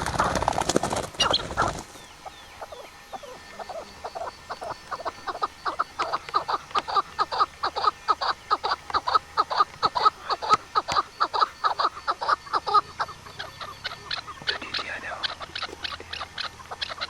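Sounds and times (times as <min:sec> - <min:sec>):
rapid descending bird calls: 0:00.0 - 0:17.0.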